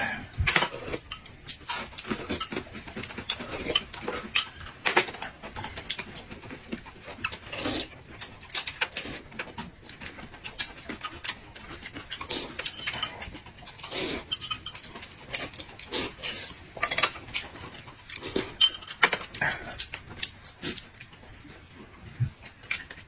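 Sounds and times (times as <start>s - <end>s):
chewing and crunching food: 0.0s - 23.0s.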